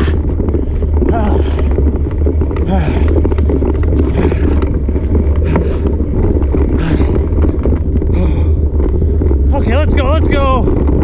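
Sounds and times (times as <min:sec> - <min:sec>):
bicycle clicks and rattles: 0:00.0 - 0:11.0
low rumble of bicycle: 0:00.0 - 0:11.0
wind buffeting microphone: 0:00.0 - 0:11.0.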